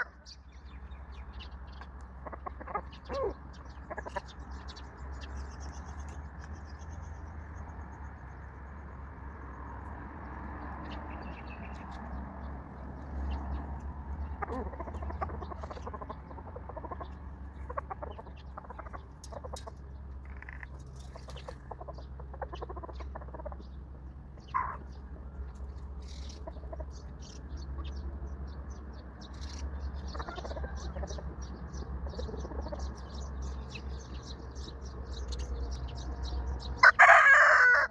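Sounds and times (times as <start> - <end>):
chickens clucking: 1.3 - 7.0, 10.8 - 37.9.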